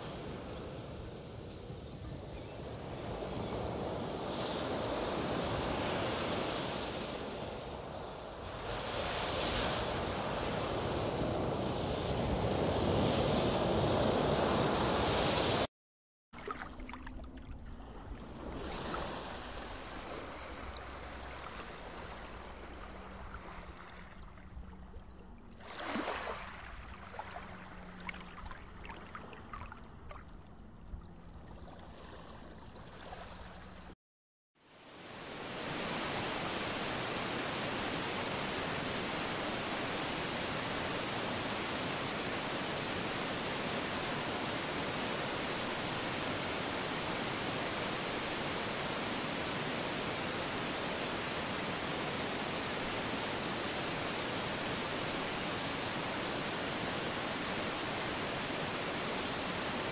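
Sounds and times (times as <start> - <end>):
ocean surf and wind: 0.0 - 15.7, 17.8 - 25.0, 25.6 - 30.0, 34.8 - 59.9.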